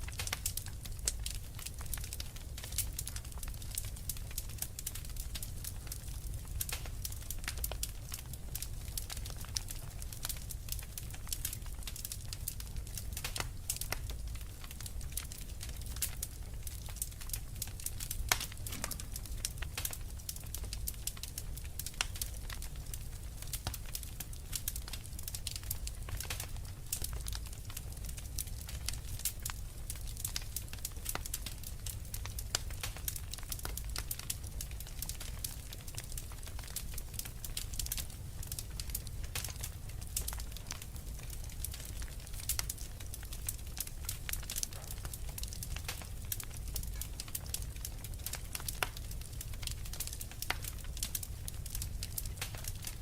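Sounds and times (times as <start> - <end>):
fireplace fire crackling: 0.0 - 53.0.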